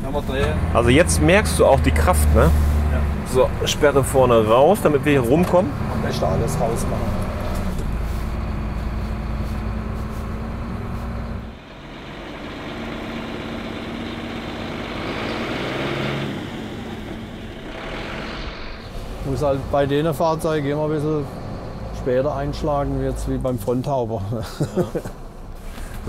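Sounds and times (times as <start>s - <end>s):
truck diesel engine rumble: 0.0s - 26.0s.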